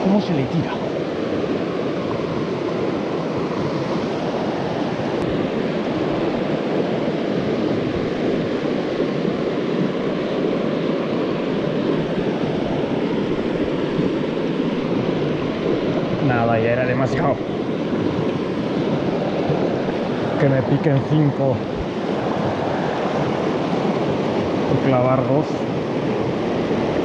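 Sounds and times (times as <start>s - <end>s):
water rushing in river cascade: 0.0s - 27.0s.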